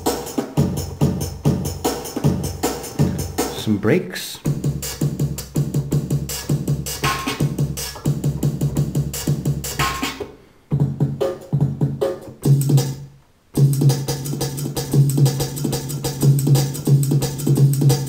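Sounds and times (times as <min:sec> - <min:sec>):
breakbeat drum loop with heavy bass: 0:00.0 - 0:13.0, 0:13.6 - 0:18.0.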